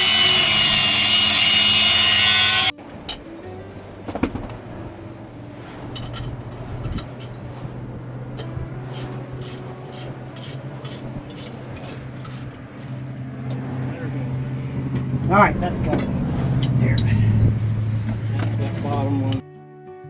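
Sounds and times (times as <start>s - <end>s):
low hum: 0.0s - 19.4s.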